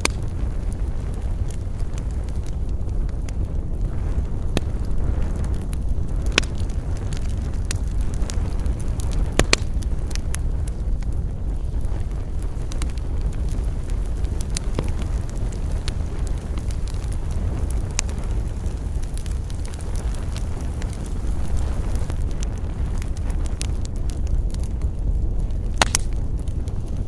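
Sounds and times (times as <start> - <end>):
campfire low rumble: 0.0 - 27.0
fire crackling and popping: 0.0 - 27.0.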